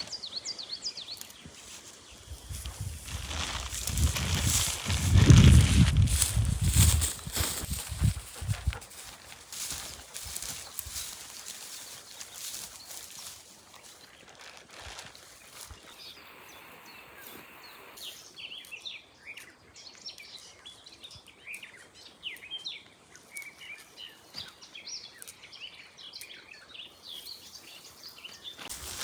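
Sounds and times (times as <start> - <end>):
songbirds singing: 0.0 - 14.3, 15.3 - 29.0.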